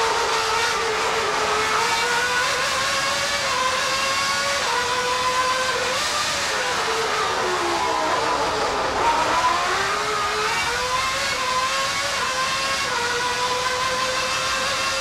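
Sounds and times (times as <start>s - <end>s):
racing car engine revving: 0.0s - 15.0s.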